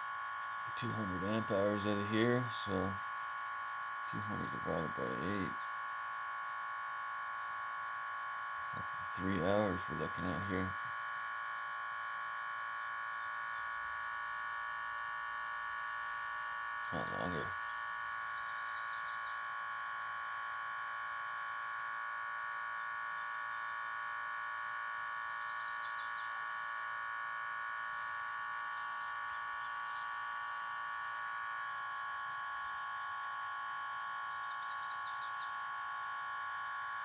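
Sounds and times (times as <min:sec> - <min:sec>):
high electrical whine: 0:00.0 - 0:37.0.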